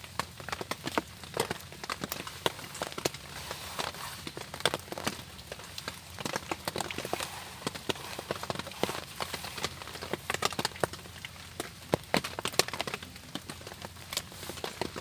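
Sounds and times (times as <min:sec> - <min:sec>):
twig fire crackling: 0:00.0 - 0:15.0.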